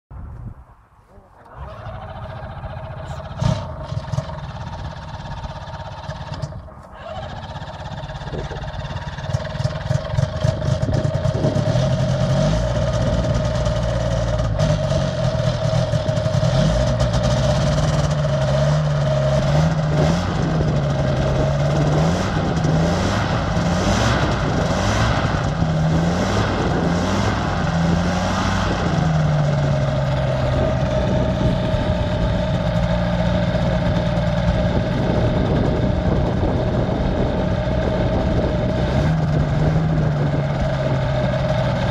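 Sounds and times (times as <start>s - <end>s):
engine and propeller running: 1.1s - 41.9s.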